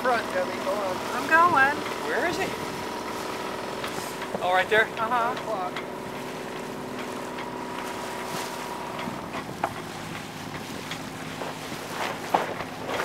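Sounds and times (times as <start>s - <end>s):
engine hum: 0.0s - 13.0s
wind and water rushing: 0.0s - 13.0s.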